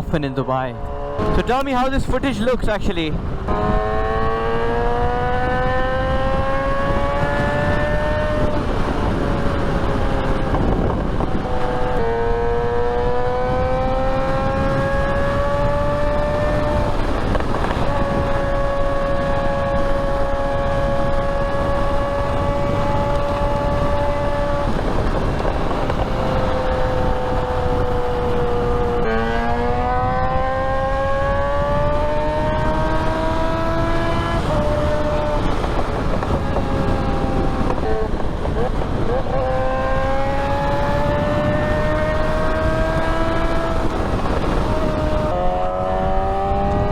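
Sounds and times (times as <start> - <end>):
motorcycle engine: 0.0 - 2.1, 3.1 - 46.9
wind rushing over microphone: 0.0 - 46.9.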